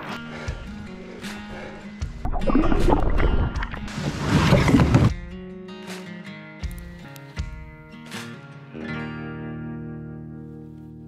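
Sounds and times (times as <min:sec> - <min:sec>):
acoustic guitar plucked and strummed: 0:00.3 - 0:11.0.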